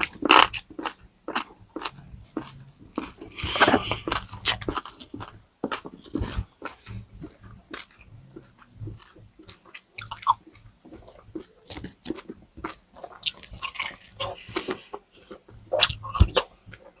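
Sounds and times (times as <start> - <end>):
crispy food crunching: 0.0 - 17.0
wet mouth sounds: 0.0 - 17.0.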